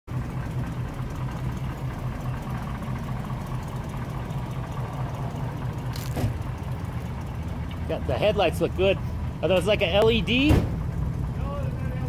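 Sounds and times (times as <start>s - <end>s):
vehicle engine idling: 0.1s - 12.0s.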